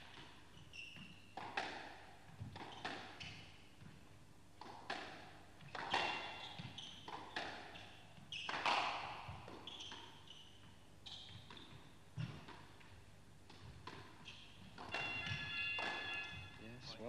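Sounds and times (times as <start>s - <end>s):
shoes squeaking on court floor: 0.0s - 4.0s, 5.6s - 17.0s
squash ball hitting racket and wall: 0.0s - 16.6s.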